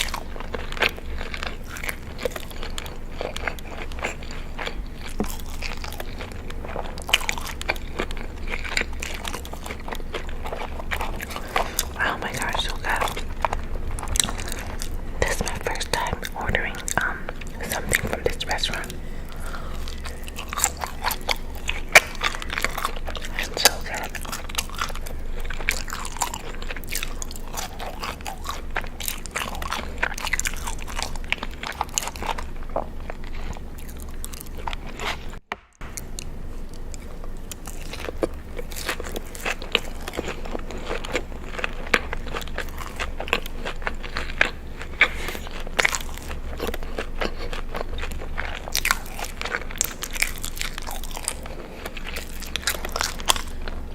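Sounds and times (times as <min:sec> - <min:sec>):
crunchy chewing: 0:00.0 - 0:53.9.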